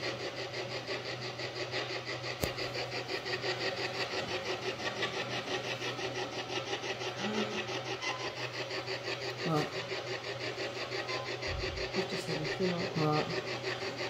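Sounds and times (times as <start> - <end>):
pulsing static hiss: 0.0 - 14.0.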